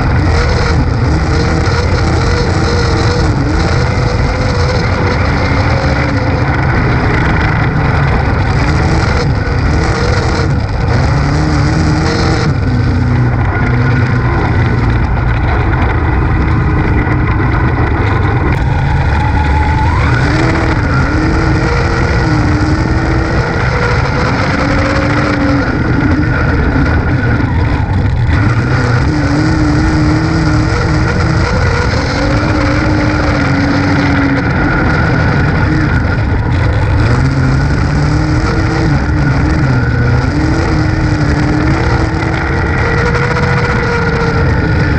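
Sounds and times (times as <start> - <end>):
race car engine from cockpit: 0.0 - 44.9.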